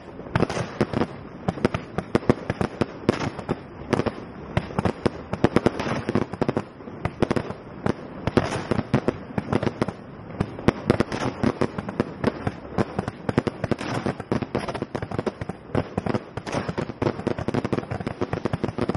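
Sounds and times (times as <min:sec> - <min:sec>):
fireworks bangs and crackles: 0:00.0 - 0:18.9.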